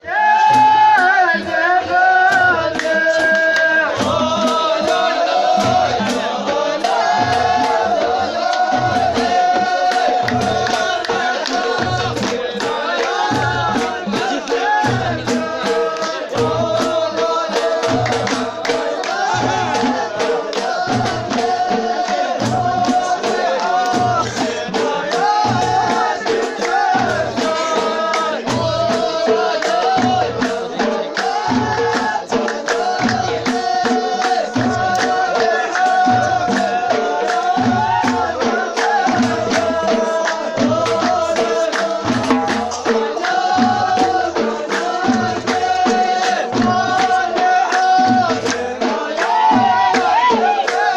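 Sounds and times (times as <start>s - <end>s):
person singing: 0.0s - 50.9s
rattling percussion: 0.4s - 50.9s
low drum beat: 1.8s - 50.9s.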